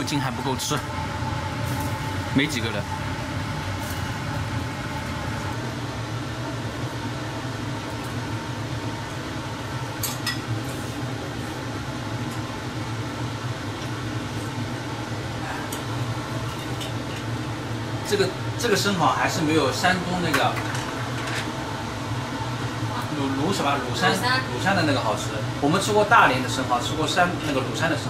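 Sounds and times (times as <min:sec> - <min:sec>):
range hood fan running: 0:00.0 - 0:28.0.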